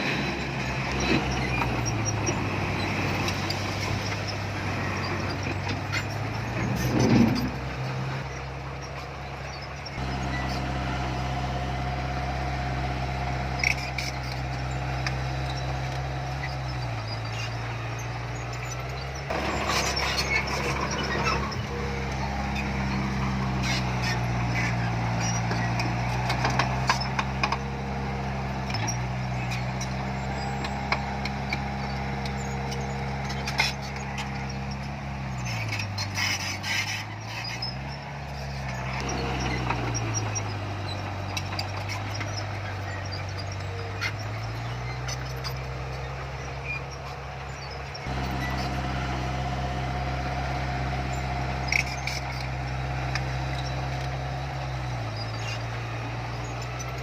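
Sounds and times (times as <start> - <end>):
heavy diesel engine under load: 0.0 - 57.0.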